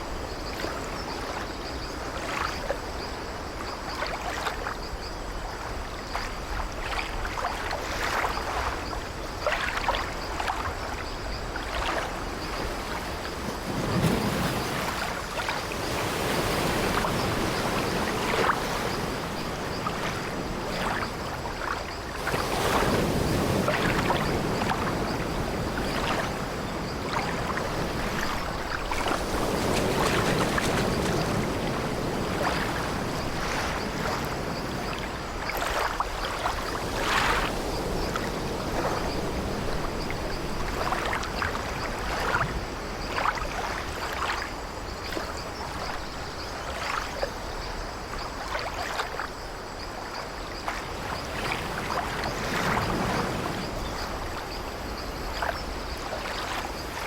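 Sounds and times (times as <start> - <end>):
sea waves washing: 7.2 - 46.0, 50.0 - 57.0.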